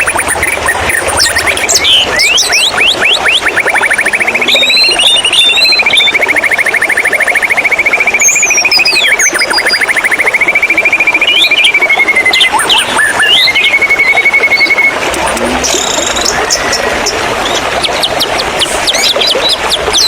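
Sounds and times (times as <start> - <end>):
whistled bird slurs: 0.0 - 16.8
bird trilling song: 0.0 - 20.0.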